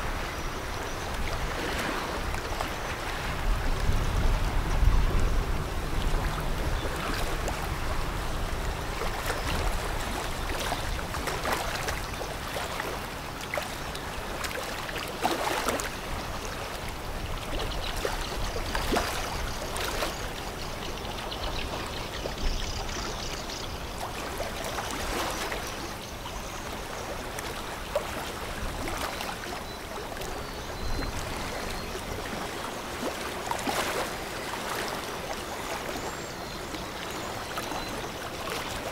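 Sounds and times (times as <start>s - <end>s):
water sloshing and splashing: 1.1s - 21.0s, 23.9s - 38.9s.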